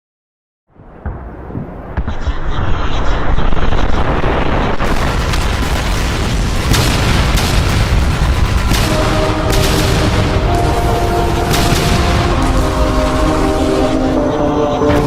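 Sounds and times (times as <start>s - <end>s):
deep explosive rumble: 1.0s - 15.0s
sharp blasts and shots: 1.0s - 15.0s.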